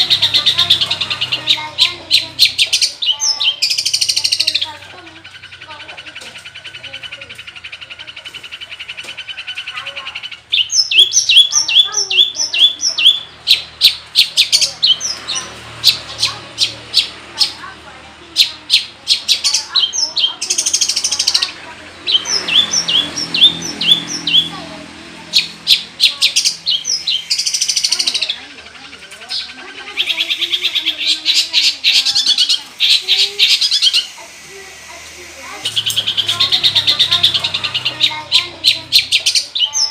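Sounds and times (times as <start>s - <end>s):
shrike singing varied song: 0.0s - 39.9s.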